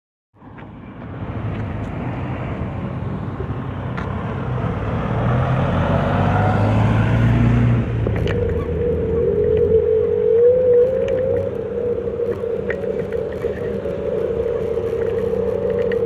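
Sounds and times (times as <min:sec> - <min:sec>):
wheels rolling: 0:01.0 - 0:16.0
electric scooter motor humming: 0:01.1 - 0:16.0.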